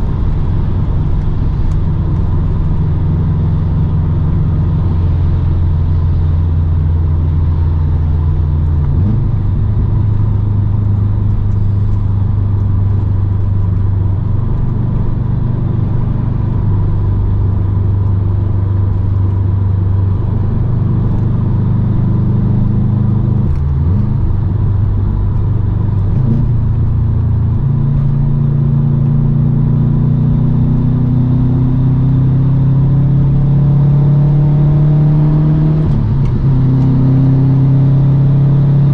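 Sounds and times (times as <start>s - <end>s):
car engine accelerating: 0.0s - 38.9s
car engine running while driving: 0.0s - 38.9s.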